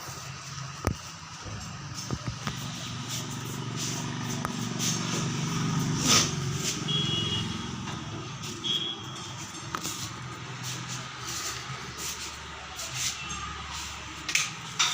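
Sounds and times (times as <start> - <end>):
vehicle engine running: 0.1 - 14.8.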